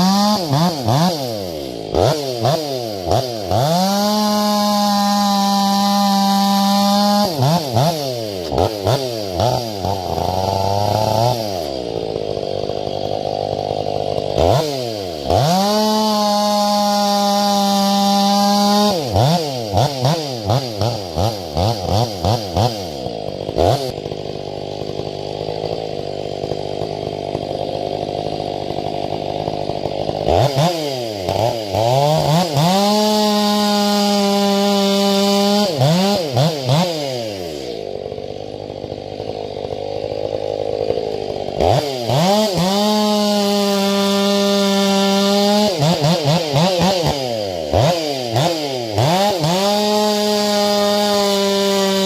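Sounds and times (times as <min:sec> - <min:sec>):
chainsaw revving and cutting wood: 0:00.0 - 0:52.0.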